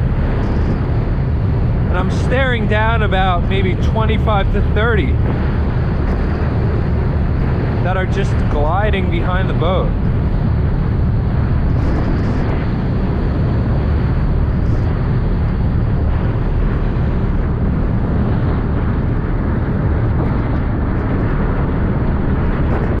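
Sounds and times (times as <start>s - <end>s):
ferry engine noise: 0.0s - 23.0s
wind on microphone: 0.0s - 23.0s.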